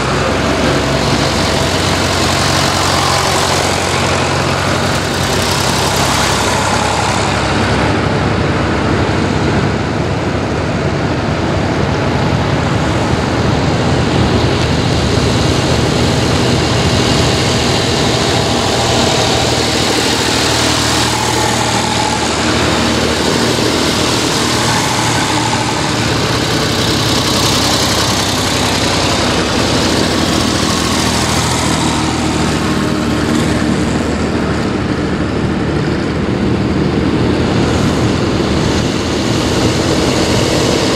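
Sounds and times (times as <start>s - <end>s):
tractor diesel engines driving past: 0.0s - 40.9s.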